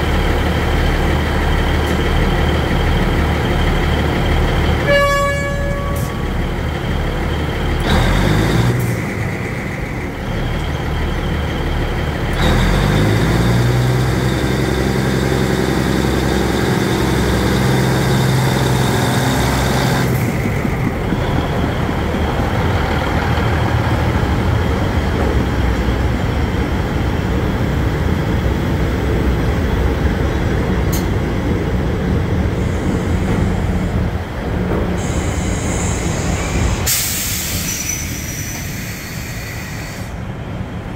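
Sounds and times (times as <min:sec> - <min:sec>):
diesel train engine under load: 0:00.0 - 0:40.9
rumble of train wheels: 0:00.0 - 0:40.9.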